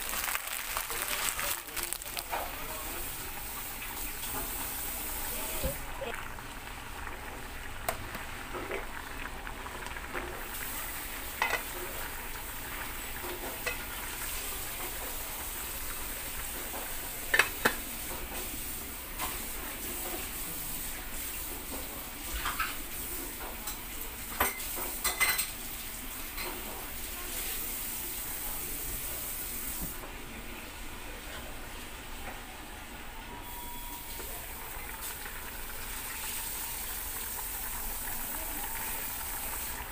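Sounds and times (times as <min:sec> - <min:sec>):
broth simmering with hiss: 0:00.0 - 0:39.9.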